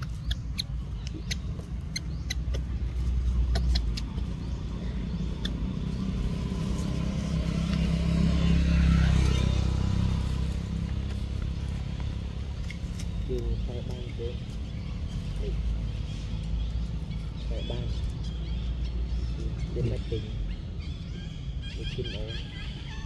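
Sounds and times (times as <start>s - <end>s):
vehicle engine rumble passing: 0.0s - 23.0s.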